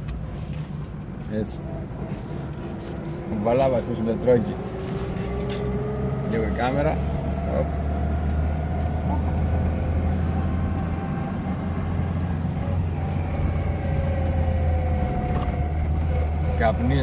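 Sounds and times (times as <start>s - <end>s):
road noise: 0.0s - 17.0s
truck diesel engine humming: 0.0s - 17.0s.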